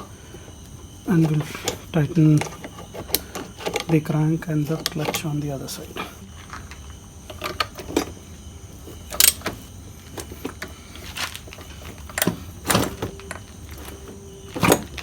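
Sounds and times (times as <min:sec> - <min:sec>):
metal tools clanking on engine: 0:00.0 - 0:15.0.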